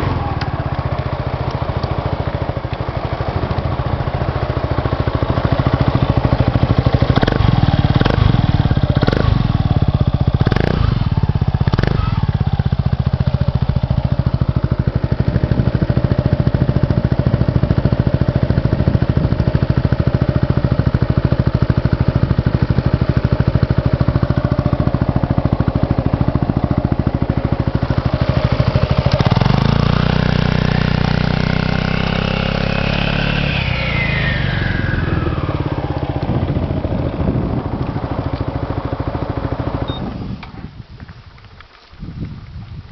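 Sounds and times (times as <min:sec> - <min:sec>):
scooter engine idling and revving: 0:00.0 - 0:40.8.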